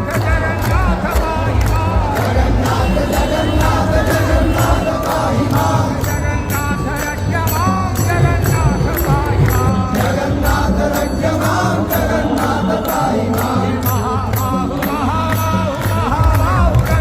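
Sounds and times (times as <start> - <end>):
group chanting: 0.0 - 16.2
hand cymbals: 0.0 - 17.0
steady drumming: 0.0 - 17.0.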